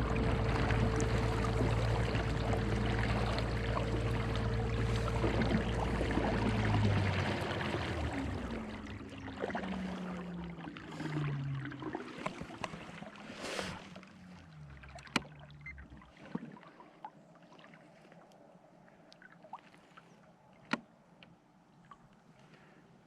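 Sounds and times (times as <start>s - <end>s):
water sounds: 0.0s - 22.7s.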